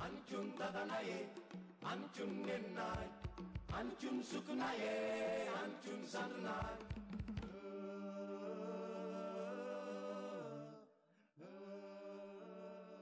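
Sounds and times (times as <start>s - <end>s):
voices singing held chords: 0.0s - 13.0s.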